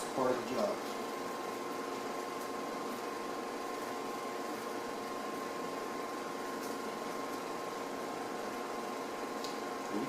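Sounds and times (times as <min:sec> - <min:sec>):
heater fan humming: 0:00.0 - 0:10.0.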